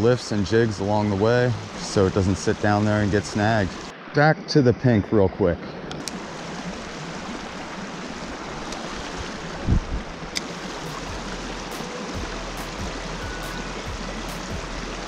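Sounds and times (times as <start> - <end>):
creek water running over rocks: 0.0 - 4.3, 5.8 - 15.0.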